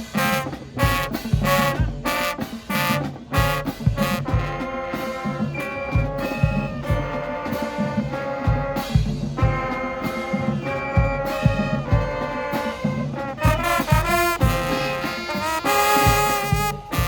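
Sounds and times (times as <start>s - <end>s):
brass hits: 0.0s - 17.0s
horns holding long chords: 0.0s - 17.0s.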